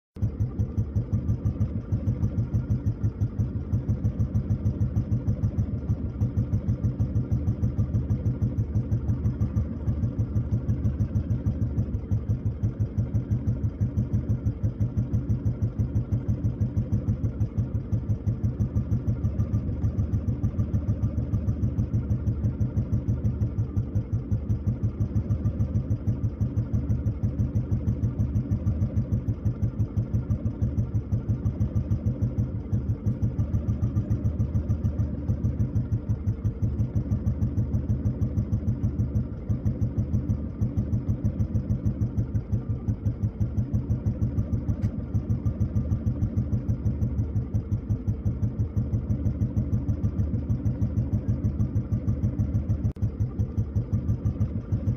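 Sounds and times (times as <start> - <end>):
motorcycle engine idling: 0.2 - 54.9.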